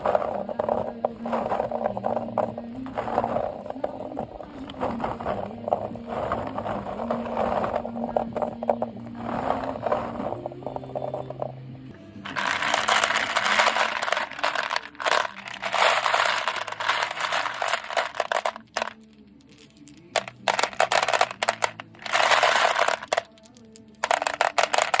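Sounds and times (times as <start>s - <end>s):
beads rattling: 0.0s - 11.5s, 12.2s - 25.0s.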